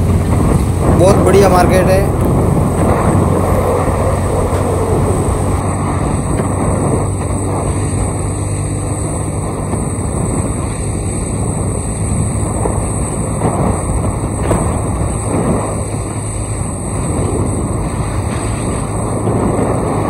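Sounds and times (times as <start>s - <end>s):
motorcycle engine hum: 0.0s - 20.0s
wind rushing over microphone: 0.0s - 20.0s.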